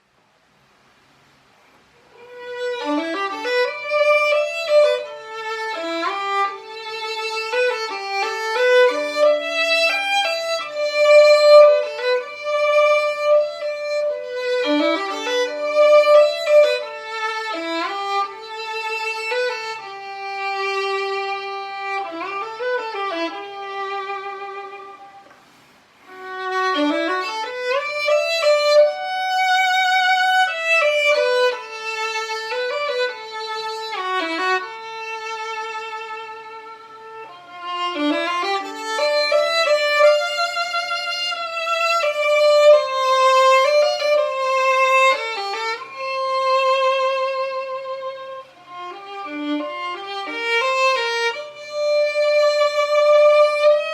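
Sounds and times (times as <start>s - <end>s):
violin playing slow melody: 1.9s - 53.9s.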